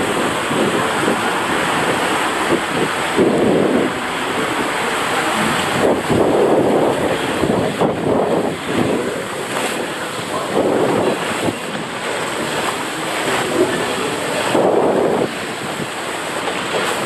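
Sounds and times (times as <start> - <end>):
water rushing along slide: 0.0 - 17.0.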